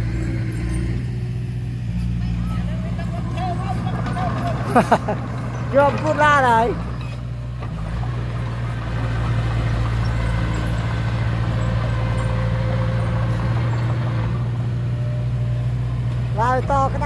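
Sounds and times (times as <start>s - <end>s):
heavy diesel machinery engine hum: 0.0s - 17.0s.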